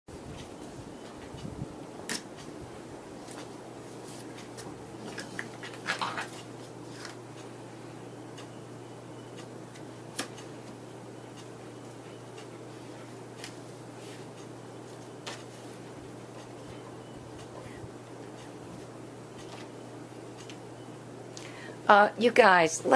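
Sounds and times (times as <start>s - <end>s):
steady low hum: 0.1s - 22.9s.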